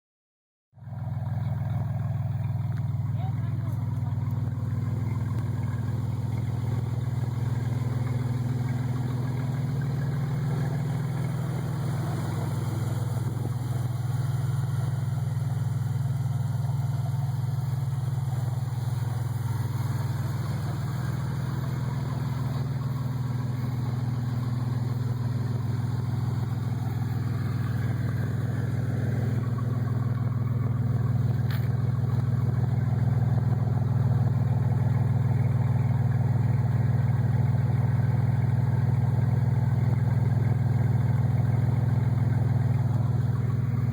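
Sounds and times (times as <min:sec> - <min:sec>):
car engine idling without muffler: 0:00.7 - 0:43.9.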